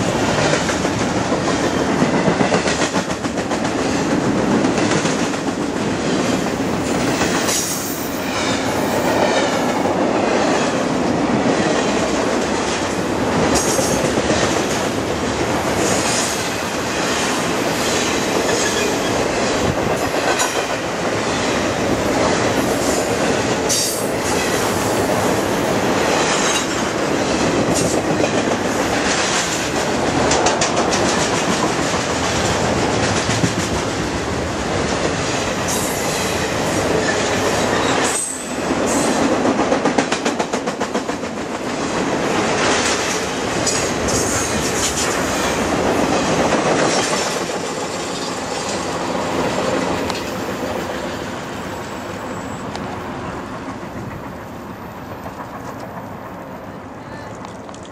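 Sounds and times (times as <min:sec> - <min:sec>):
freight train wheels rumbling on rail: 0:00.0 - 0:57.9.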